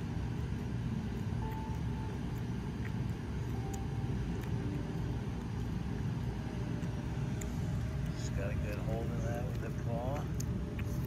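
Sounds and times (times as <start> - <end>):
dog gnawing a bone: 0.0 - 11.0
low background rumble: 0.0 - 11.0
teeth clicking on bone: 0.0 - 11.0.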